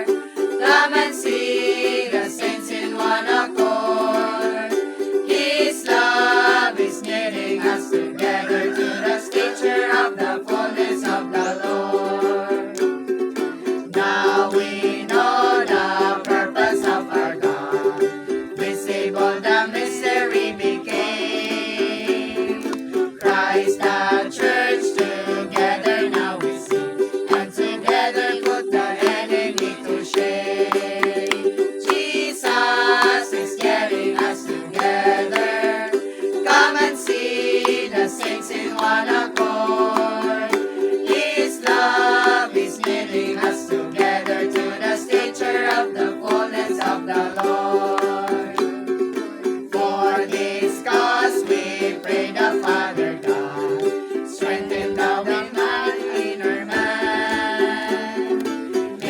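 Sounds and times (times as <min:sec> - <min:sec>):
congregation singing a hymn: 0:00.0 - 0:12.9, 0:13.8 - 0:59.0
instrumental accompaniment: 0:00.0 - 0:59.0.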